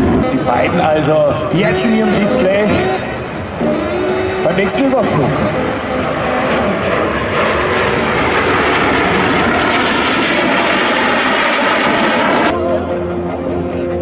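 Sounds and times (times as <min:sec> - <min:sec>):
jet engine roar of fighter flying past: 0:00.0 - 0:12.6.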